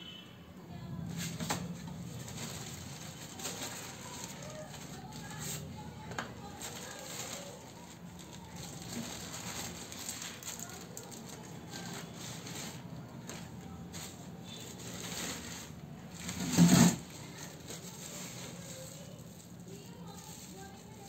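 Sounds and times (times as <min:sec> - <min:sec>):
plastic bag crinkling: 0:01.1 - 0:21.0.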